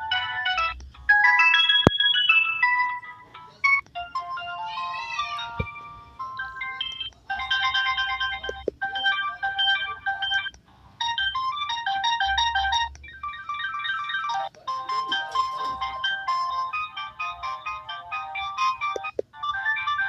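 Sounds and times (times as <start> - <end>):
phone ringtone melodies: 0.0 - 20.0.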